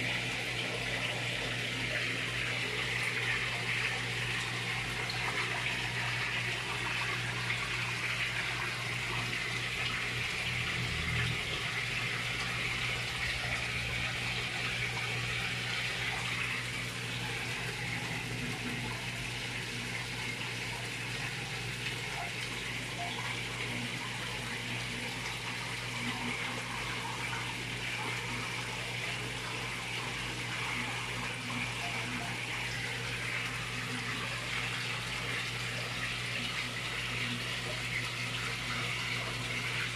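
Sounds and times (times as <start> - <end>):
water pouring into pond: 0.0 - 39.9.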